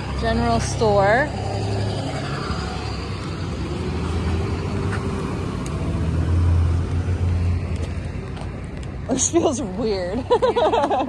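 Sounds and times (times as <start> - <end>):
car engine passing: 0.0 - 11.0.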